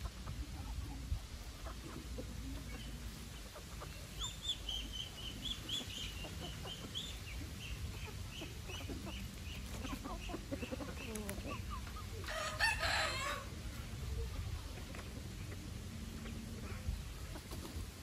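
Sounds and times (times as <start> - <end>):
chickens clucking: 0.0 - 18.0
chicks peeping: 0.0 - 18.0.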